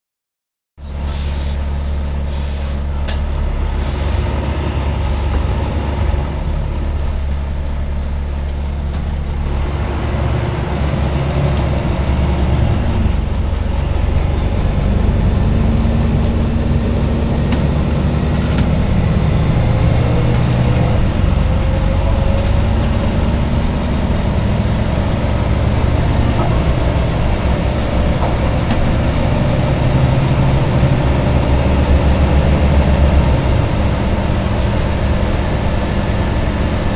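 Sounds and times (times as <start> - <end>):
bus engine humming: 0.8 - 36.9.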